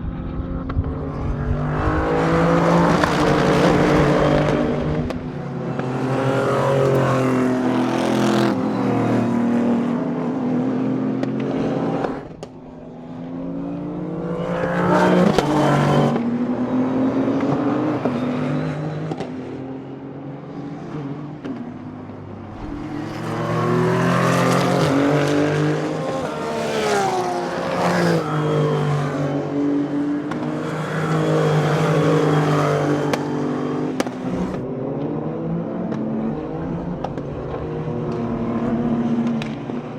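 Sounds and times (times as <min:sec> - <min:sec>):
race cars passing at speed: 0:00.0 - 0:39.9.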